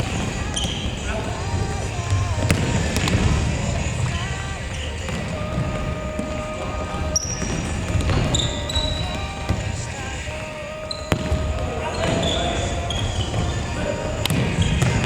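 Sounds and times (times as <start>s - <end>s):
ball knocking off feet and floor: 0.0s - 15.0s
echoing rumble of large hall: 0.0s - 15.0s
shoe squeaks: 0.0s - 15.0s.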